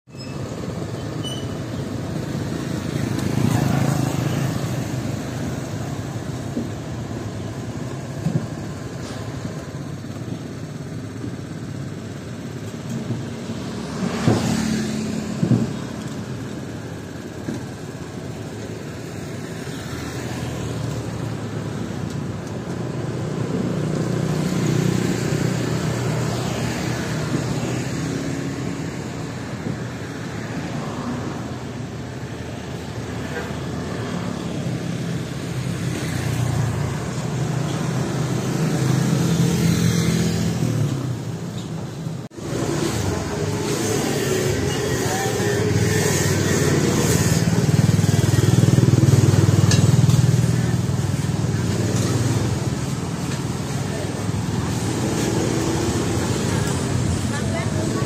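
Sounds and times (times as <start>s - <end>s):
motorbikes and cars passing: 0.1s - 58.0s.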